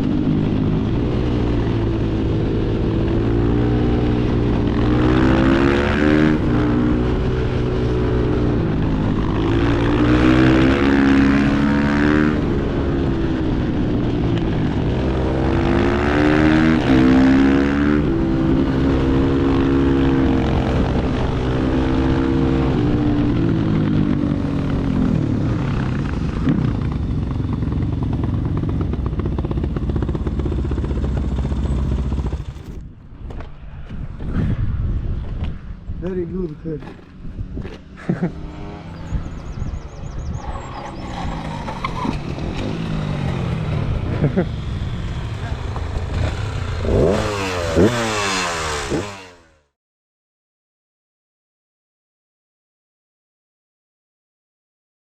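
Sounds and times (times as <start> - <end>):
motorcycle engine revving: 0.0 - 33.0, 35.6 - 49.8.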